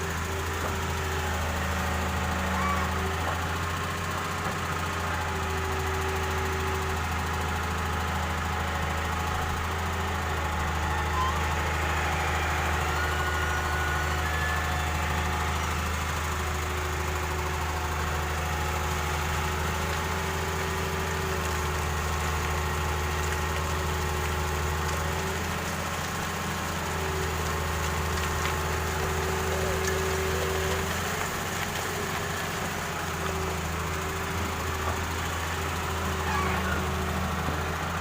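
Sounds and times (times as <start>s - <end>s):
excavator diesel engine humming: 0.0s - 38.0s.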